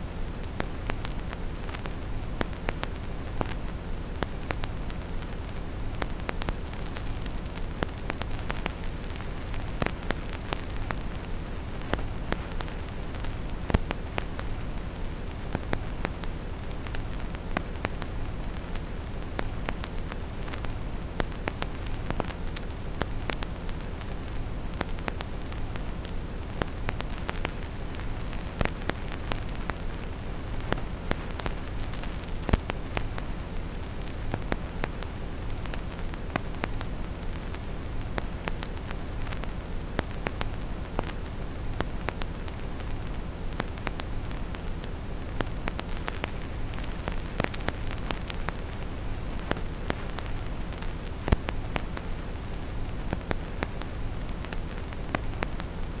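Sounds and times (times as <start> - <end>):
vinyl record crackle: 0.0 - 56.0.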